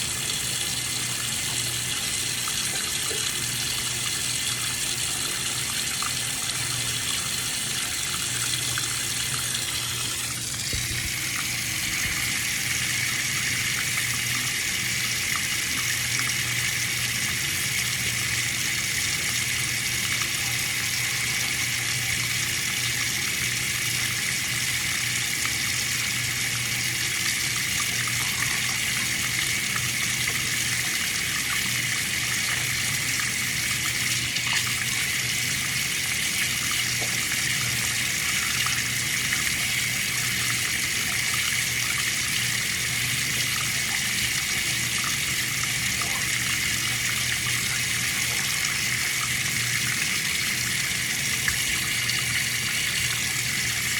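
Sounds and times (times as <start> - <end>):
water running from a tap: 0.0 - 53.9.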